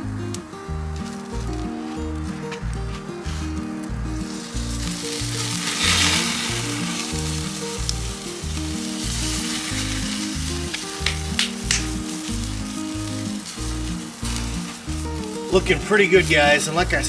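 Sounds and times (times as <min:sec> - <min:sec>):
background music with bass beat: 0:00.0 - 0:17.0
meat sizzling over flame: 0:00.0 - 0:17.0.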